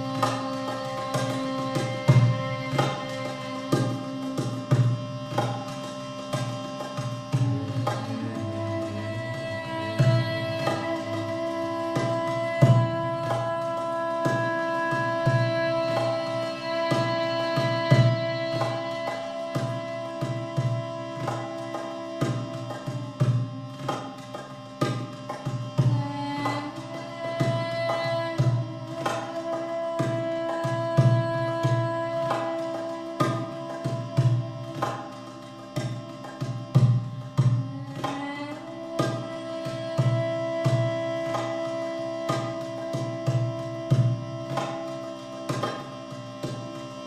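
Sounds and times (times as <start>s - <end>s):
hand drum strikes: 0.0s - 47.0s
sustained droning tone: 0.0s - 47.0s.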